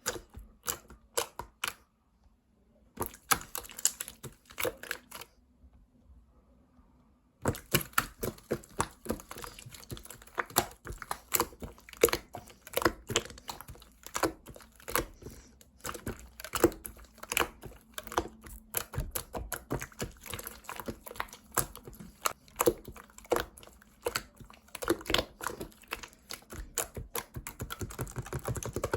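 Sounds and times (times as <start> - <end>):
sticky slime clicks and crackles: 3.0 - 5.2, 7.4 - 28.9.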